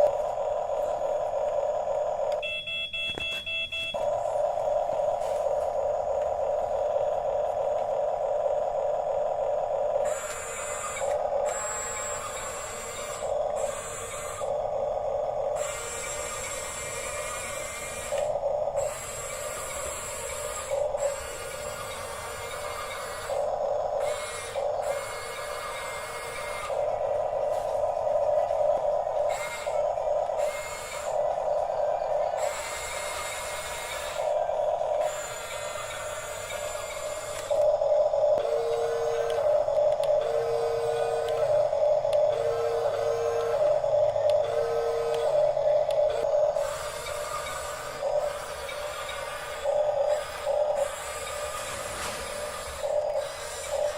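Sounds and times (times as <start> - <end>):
toy motors whirring: 0.0 - 2.6, 3.9 - 53.9.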